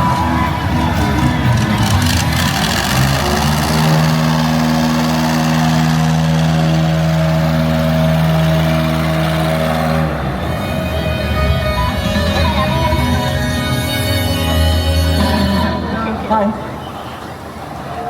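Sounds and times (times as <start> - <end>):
engine humming steadily: 0.0 - 17.2.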